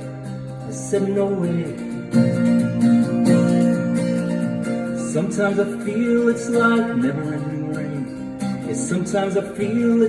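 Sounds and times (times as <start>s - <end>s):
guitar strumming chords: 0.0s - 10.0s.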